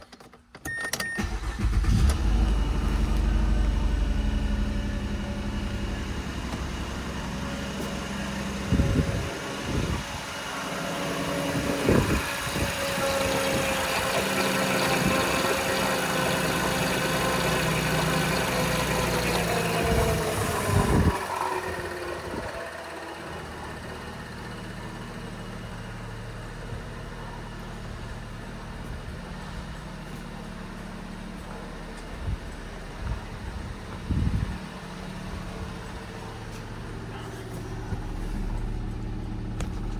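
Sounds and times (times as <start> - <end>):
car engine starting and idling: 0.0 - 39.9.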